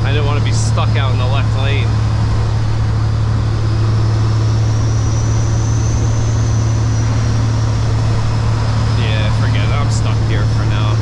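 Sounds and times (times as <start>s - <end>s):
diesel truck engine droning: 0.0s - 11.0s
road noise: 0.0s - 11.0s.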